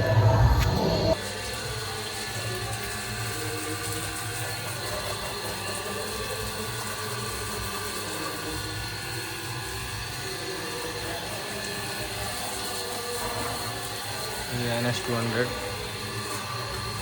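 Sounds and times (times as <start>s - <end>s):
water spraying on motorcycle: 1.1s - 17.0s.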